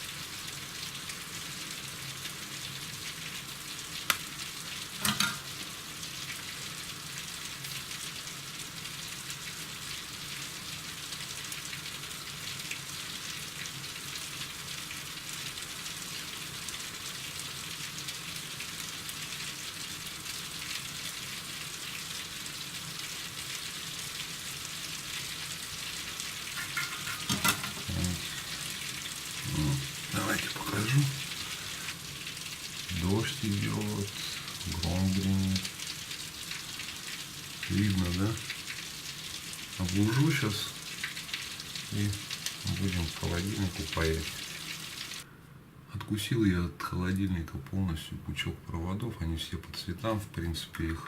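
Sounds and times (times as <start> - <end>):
steady rain falling: 0.0 - 45.3, 46.0 - 51.0.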